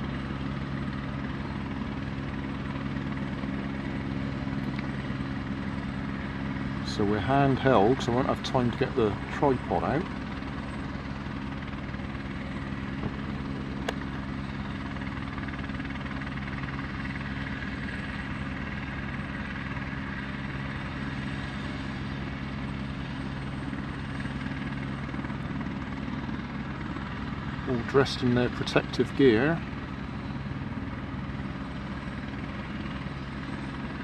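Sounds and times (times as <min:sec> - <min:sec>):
helicopter running: 0:00.0 - 0:34.0.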